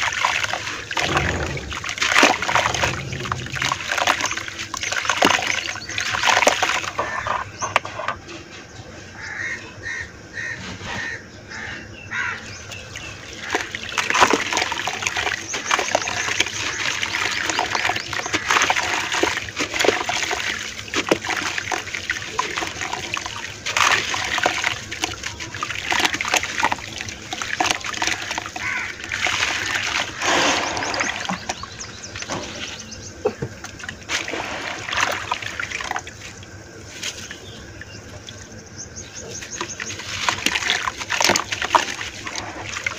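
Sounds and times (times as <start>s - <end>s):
wet dirt clumps crackling: 0.0s - 7.6s, 13.3s - 42.9s
muddy water splashing and sloshing: 0.0s - 11.1s, 12.5s - 42.9s.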